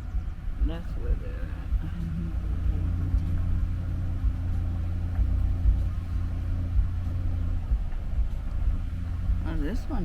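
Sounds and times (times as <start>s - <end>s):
motor vehicle driving: 0.0s - 10.0s.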